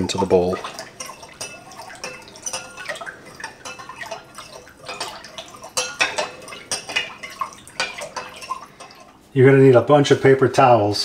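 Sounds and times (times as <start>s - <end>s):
spoon clinking and scraping glass bowl: 0.0s - 9.2s
small water splashes: 0.0s - 9.3s.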